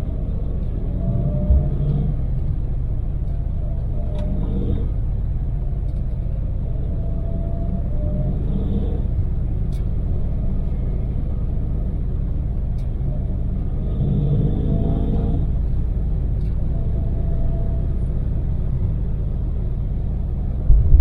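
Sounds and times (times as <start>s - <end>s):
road rumble: 0.0s - 21.0s
van engine running: 0.0s - 21.0s.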